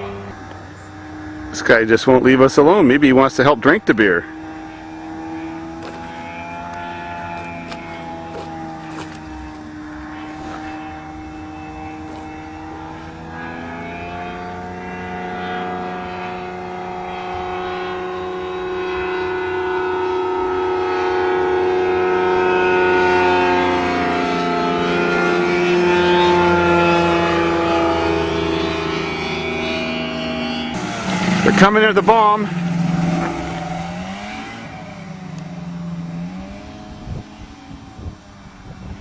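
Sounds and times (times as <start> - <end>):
propeller airplane engine flying low: 0.0 - 39.0.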